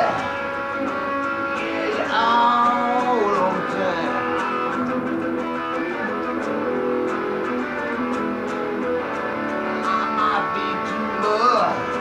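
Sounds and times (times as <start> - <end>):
guitar plucked and strummed: 0.0 - 12.0.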